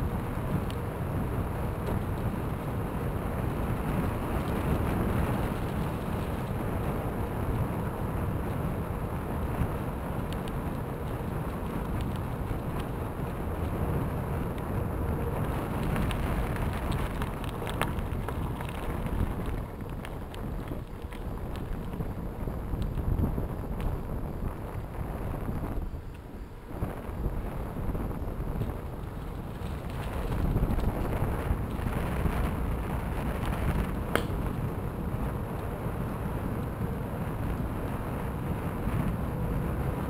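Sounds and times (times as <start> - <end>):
tyres crackling on gravel and leaves: 0.0 - 40.0
wind buffeting microphone: 0.0 - 40.0.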